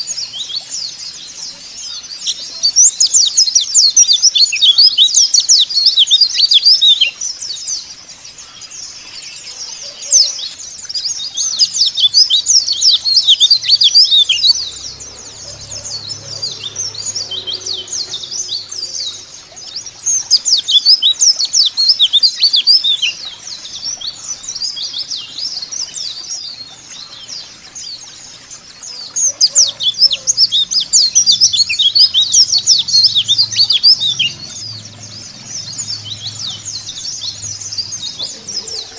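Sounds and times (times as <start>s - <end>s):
birds twittering: 0.0s - 38.9s.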